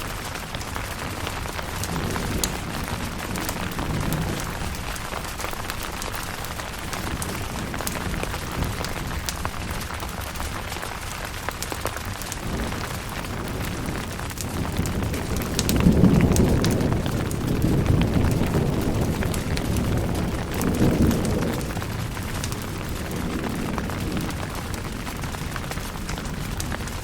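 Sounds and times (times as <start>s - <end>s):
rain falling on a tent: 0.0s - 27.0s.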